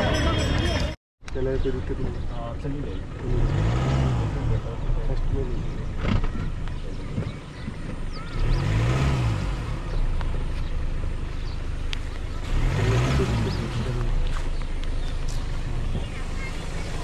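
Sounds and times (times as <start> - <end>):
low traffic rumble: 0.0 - 17.0
vehicles passing by: 0.0 - 17.0.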